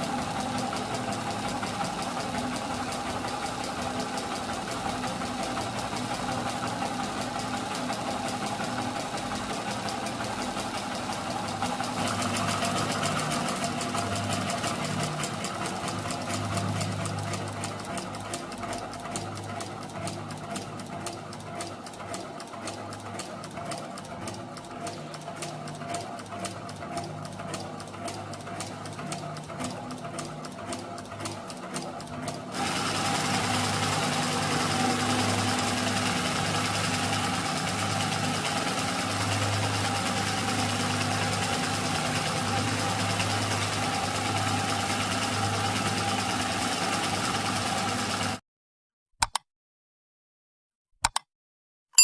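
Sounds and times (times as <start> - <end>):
model engine clicking clatter: 0.0 - 48.4.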